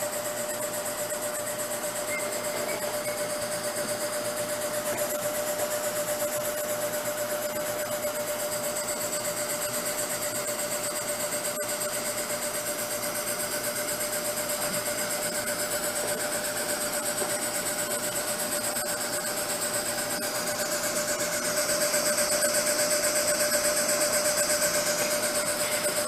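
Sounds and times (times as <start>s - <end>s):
compressor running with pulsing: 0.0s - 26.0s.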